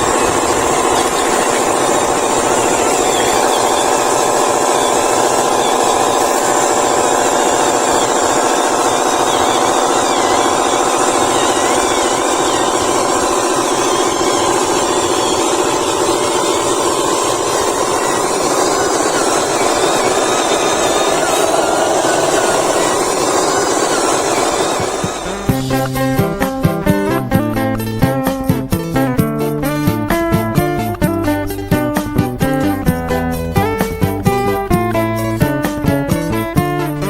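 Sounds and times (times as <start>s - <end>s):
toy electric motors whirring: 0.0s - 36.9s.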